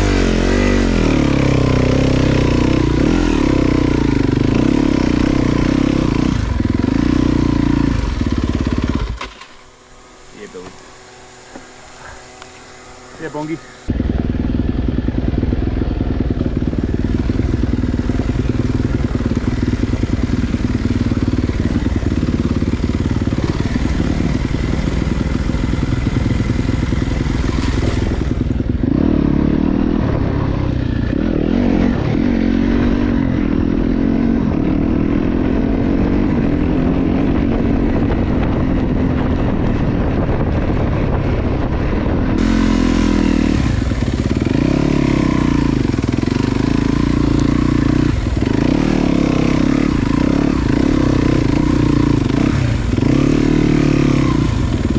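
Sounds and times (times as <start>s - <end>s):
dirt bike engine: 0.0s - 54.9s.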